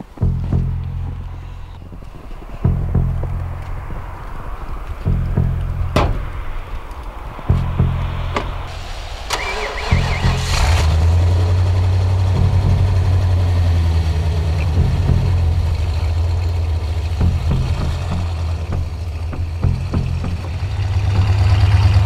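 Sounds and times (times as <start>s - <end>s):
music: 0.0s - 8.8s, 9.4s - 22.0s
pickup engine starting and idling: 0.2s - 22.0s.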